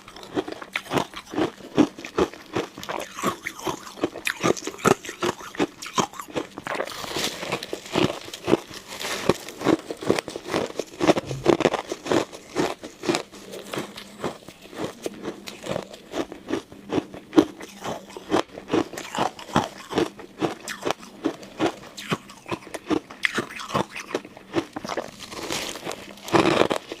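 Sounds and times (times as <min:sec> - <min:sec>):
ice cubes crunching when chewed: 0:00.0 - 0:27.0.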